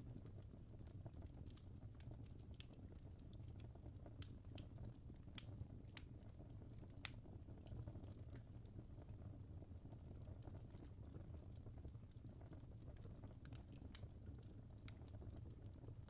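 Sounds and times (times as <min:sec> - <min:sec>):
fireplace crackling and popping: 0:00.0 - 0:16.0.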